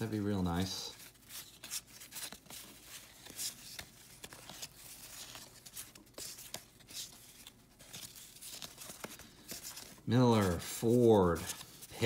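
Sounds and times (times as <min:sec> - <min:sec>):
cards being shuffled: 0:00.5 - 0:12.0.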